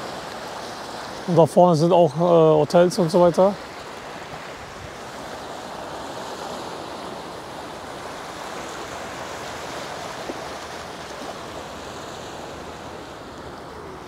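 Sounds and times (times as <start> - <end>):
waves breaking over rocks: 0.0 - 14.0.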